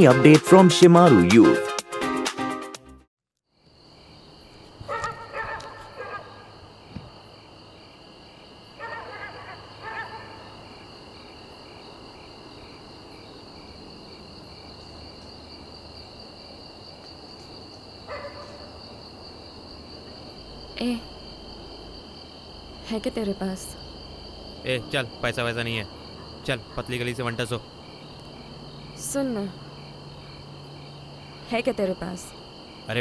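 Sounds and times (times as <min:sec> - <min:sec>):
crickets chirring: 0:03.5 - 0:33.0.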